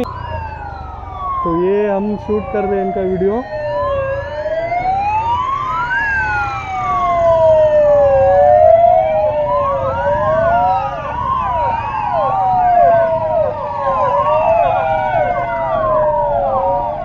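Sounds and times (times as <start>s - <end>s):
motorcycle engines rumbling: 0.0s - 17.0s
siren yelp: 0.0s - 17.0s
sirens wailing: 0.0s - 17.0s.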